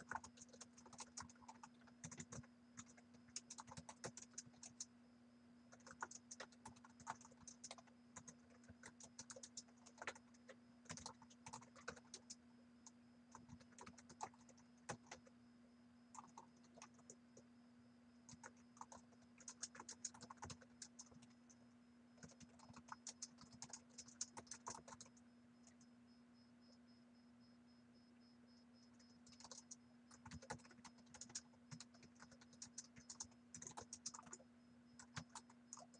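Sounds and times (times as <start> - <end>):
computer keyboard typing: 0.0 - 4.9, 5.7 - 15.3, 16.1 - 17.2, 18.3 - 21.6, 22.2 - 25.9, 28.9 - 34.4, 35.0 - 35.9
faint steady hum: 0.0 - 35.9.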